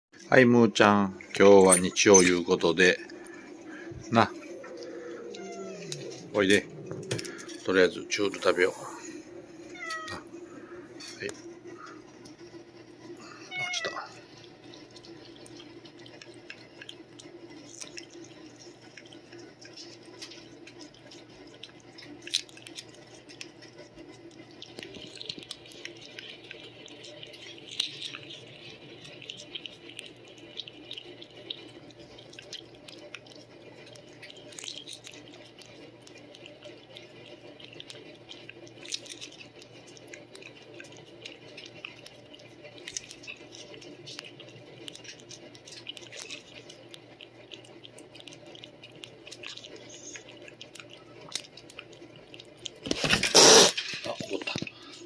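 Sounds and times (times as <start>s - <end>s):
steady low hum: 0.2s - 55.0s
cat lapping and smacking: 1.2s - 55.0s.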